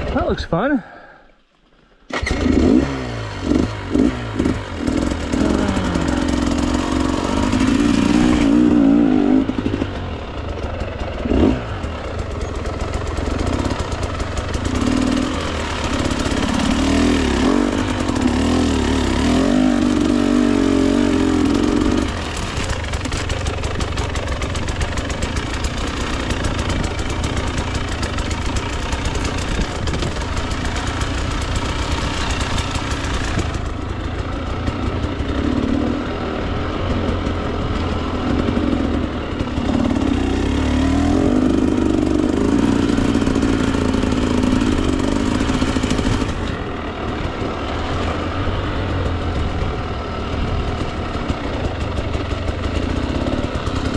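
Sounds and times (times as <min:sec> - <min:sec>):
dirt bike engine revving: 0:02.1 - 0:53.9.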